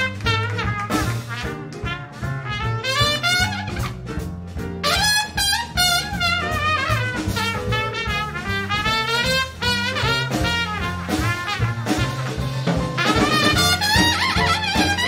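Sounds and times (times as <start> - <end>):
trumpet soloing: 0.0 - 4.2, 4.8 - 15.0
jazz combo: 0.0 - 15.0.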